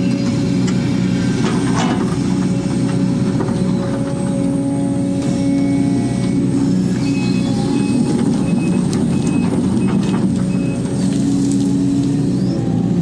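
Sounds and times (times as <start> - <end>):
excavator engine drone: 0.0 - 13.0
hydraulic whine: 0.0 - 13.0.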